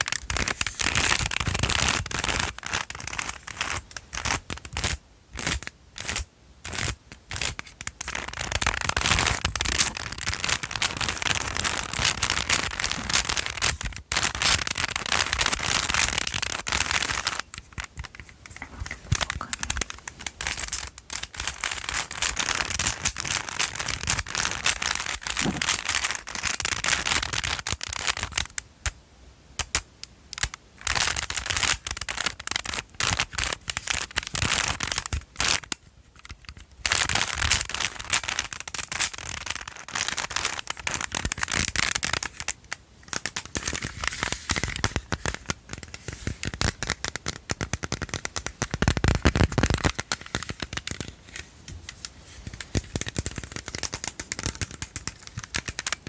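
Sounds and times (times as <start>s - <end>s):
object crinkling and crackling: 0.0s - 29.0s, 29.6s - 56.0s.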